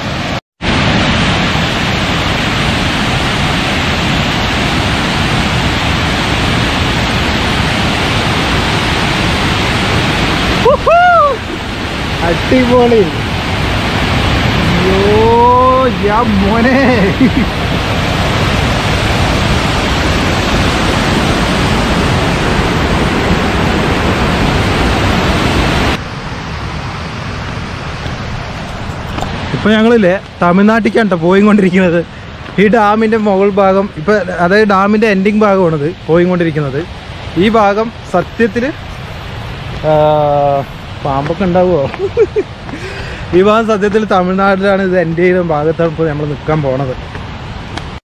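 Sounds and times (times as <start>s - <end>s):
water roaring down spillway: 0.0s - 48.0s.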